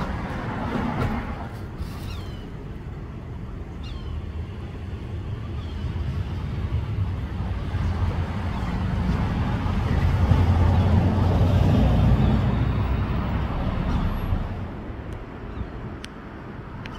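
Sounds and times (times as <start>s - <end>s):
road traffic noise: 0.0s - 16.9s.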